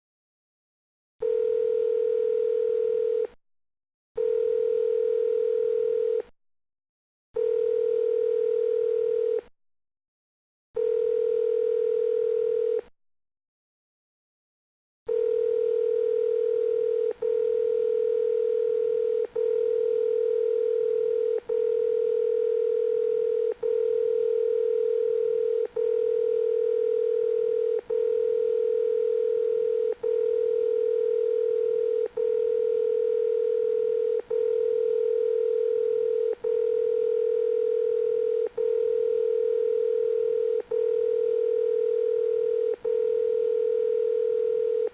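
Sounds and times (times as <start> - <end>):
electronic telephone tone: 1.2 - 3.4, 4.2 - 6.3, 7.4 - 9.5, 10.8 - 12.9, 15.1 - 44.9.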